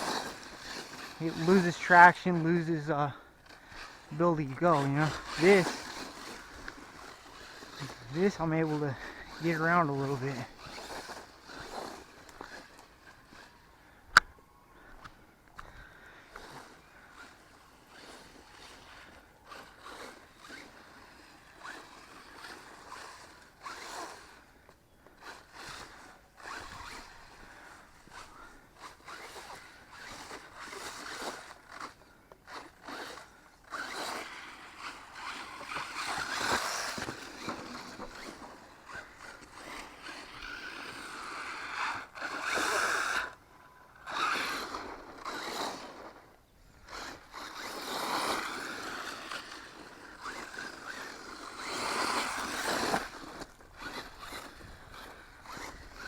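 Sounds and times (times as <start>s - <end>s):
electric rc truck motor buzzing: 0.0s - 56.0s.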